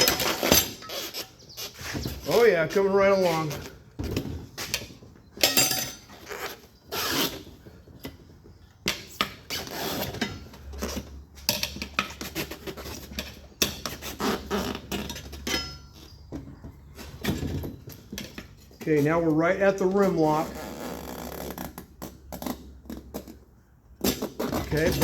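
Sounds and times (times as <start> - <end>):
tire irons scraping on rim: 0.0 - 23.4, 24.0 - 25.0.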